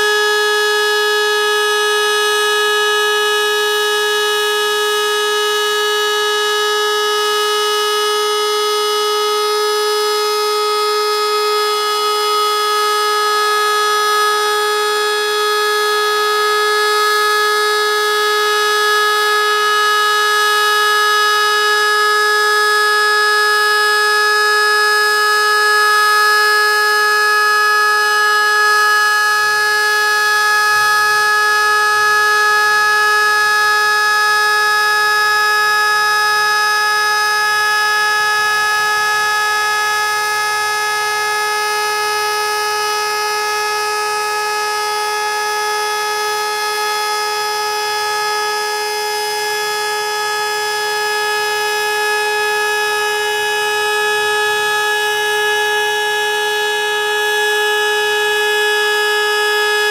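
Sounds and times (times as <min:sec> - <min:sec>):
dual-tone siren steady tone: 0:00.0 - 0:59.9.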